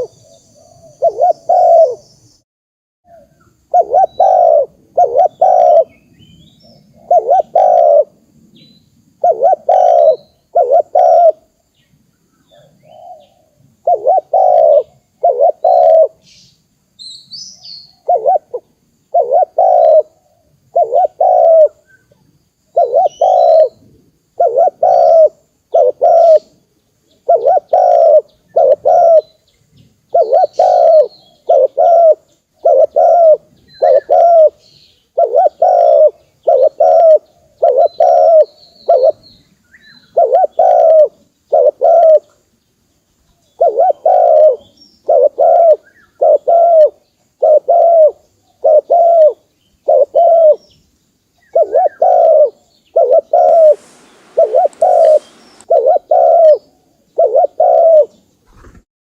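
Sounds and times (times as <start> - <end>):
dove cooing: 0.0 - 2.0, 3.1 - 6.0, 6.9 - 8.2, 9.2 - 11.5, 12.5 - 16.2, 17.9 - 21.8, 22.7 - 26.5, 27.2 - 29.4, 30.1 - 34.6, 35.2 - 39.2, 40.0 - 42.4, 43.6 - 50.6, 51.5 - 58.8
small birds chirping: 3.1 - 58.8.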